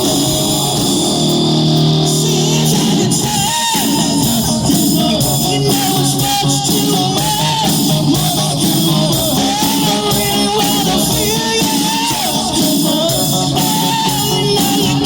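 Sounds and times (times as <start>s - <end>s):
person singing lead vocal: 0.0s - 15.0s
rock band playing: 0.0s - 15.0s.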